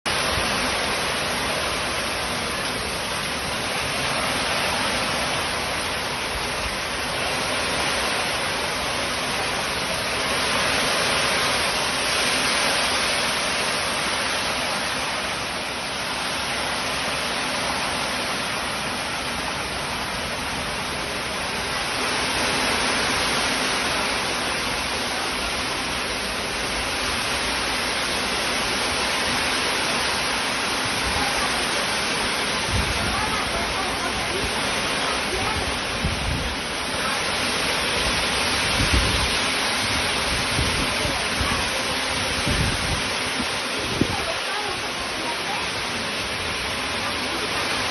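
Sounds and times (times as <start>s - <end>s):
rain falling: 0.0s - 47.9s.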